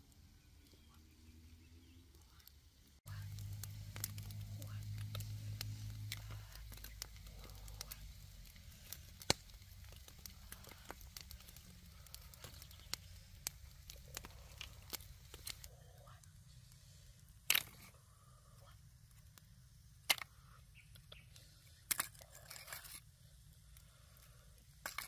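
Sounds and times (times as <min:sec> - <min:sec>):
fire popping: 0:00.0 - 0:25.0
wood fire crackling: 0:00.0 - 0:25.0.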